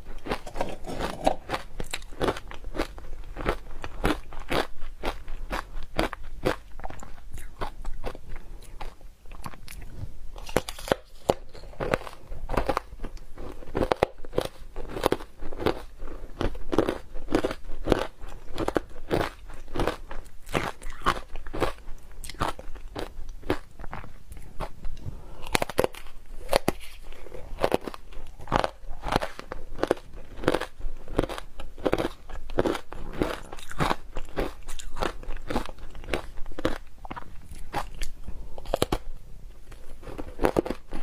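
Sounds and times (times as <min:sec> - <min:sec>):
ice crunching being chewed: 0:00.0 - 0:41.0.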